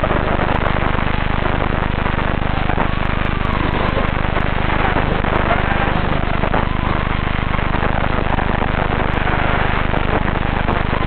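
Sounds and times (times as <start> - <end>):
quadcopter motors buzzing: 0.0 - 11.0.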